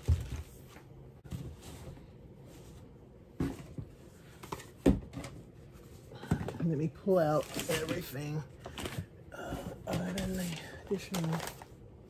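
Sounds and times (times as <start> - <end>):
rummaging items in a box: 0.0 - 11.8.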